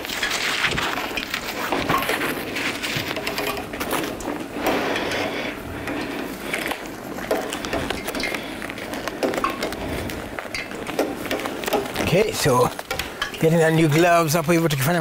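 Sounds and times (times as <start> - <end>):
utensils and containers rattling: 0.0 - 14.4.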